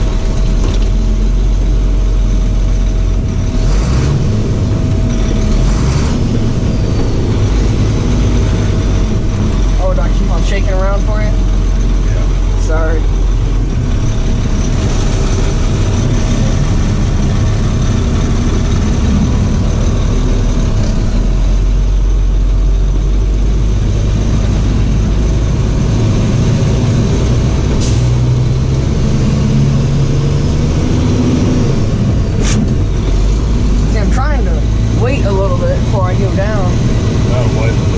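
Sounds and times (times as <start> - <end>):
truck engine and road noise: 0.0 - 37.9.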